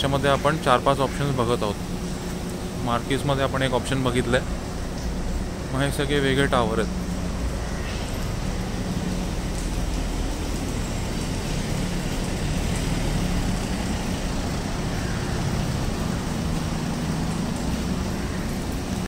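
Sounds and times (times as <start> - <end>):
low hum: 0.0 - 19.0
urban traffic noise: 0.0 - 19.0.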